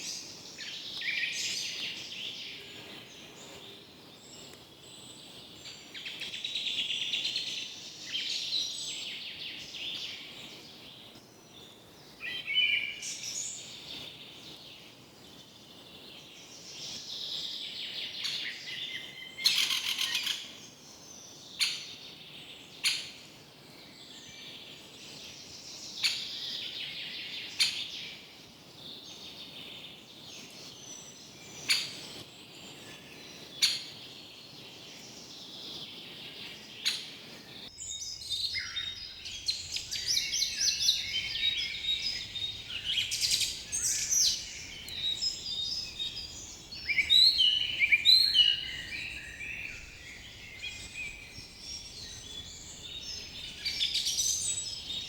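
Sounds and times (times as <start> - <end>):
background hiss: 0.0 - 55.0
forest birds singing: 0.0 - 55.0.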